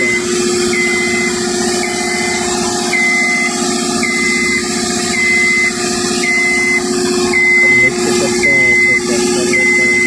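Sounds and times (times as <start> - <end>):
diesel engine and hydraulics running: 0.0 - 10.0
motion alarm beeping: 0.0 - 10.0.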